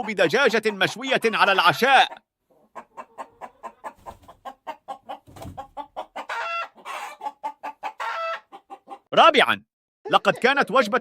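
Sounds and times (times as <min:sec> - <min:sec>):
chicken clucking: 0:00.0 - 0:09.1
chicken squawking: 0:00.0 - 0:09.1.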